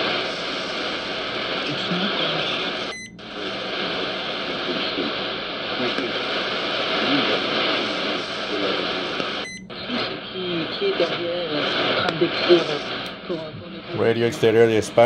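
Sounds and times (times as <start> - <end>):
radio static hiss: 0.0 - 15.0
faint voice on radio: 1.4 - 15.0.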